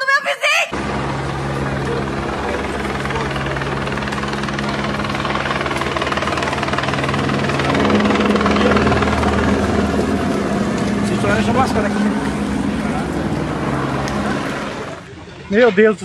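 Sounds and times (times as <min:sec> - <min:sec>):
helicopter flying overhead: 0:00.7 - 0:16.0.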